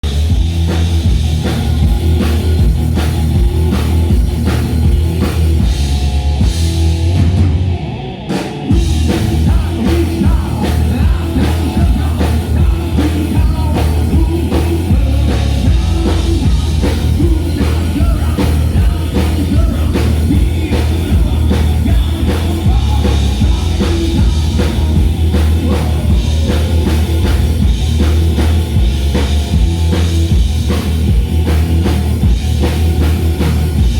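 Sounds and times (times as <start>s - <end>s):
drum kit beat: 0.0s - 33.9s
live rock band playing: 0.0s - 33.9s.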